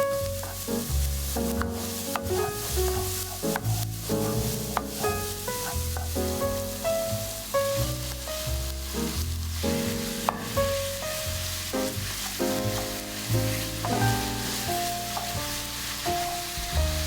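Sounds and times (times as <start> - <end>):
food sizzling in a pan: 0.0 - 17.0
keyboard and bass music: 0.0 - 17.0.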